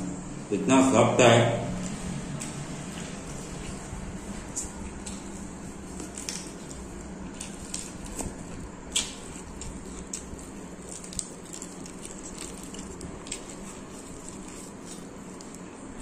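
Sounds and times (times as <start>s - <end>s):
wet chewing and biting: 2.9s - 16.0s.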